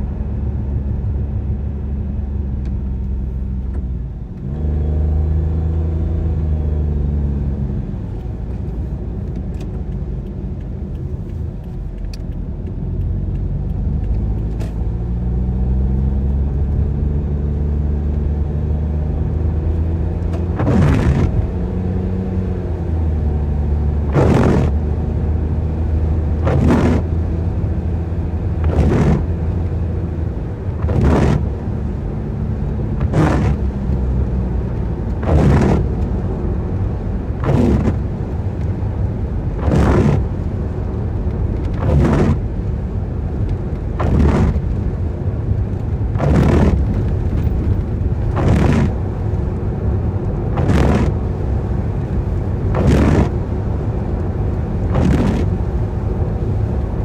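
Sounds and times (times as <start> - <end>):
car engine running: 7.5 - 57.0
windscreen wipers swishing: 7.7 - 57.0.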